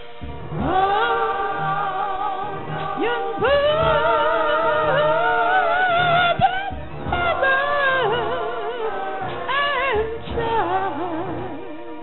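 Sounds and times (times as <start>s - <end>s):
choir singing: 0.0s - 12.0s
woman singing gospel: 0.6s - 11.8s.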